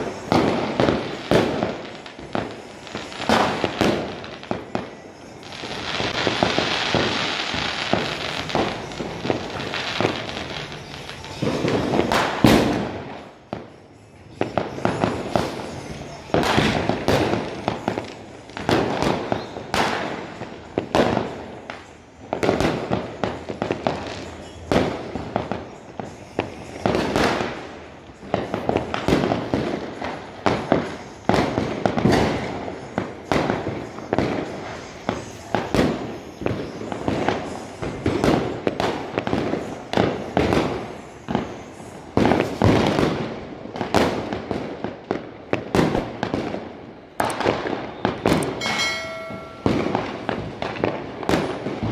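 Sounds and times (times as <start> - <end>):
firecrackers banging: 0.0 - 51.9
fireworks bursting: 0.0 - 51.9.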